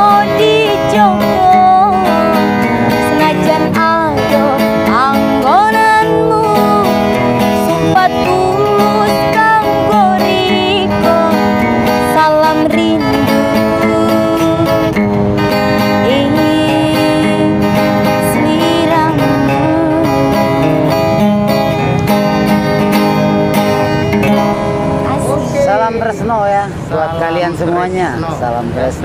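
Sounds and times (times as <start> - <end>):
sliding melody line: 0.0 - 26.7
acoustic guitar strumming: 0.0 - 29.0.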